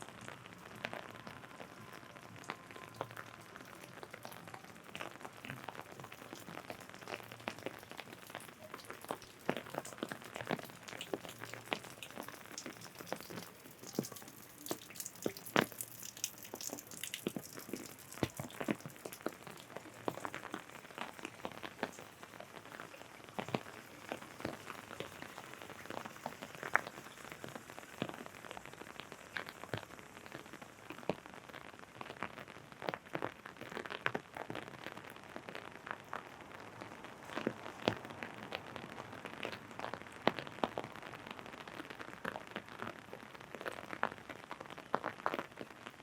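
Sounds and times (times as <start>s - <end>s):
rain on an umbrella: 0.0s - 46.0s.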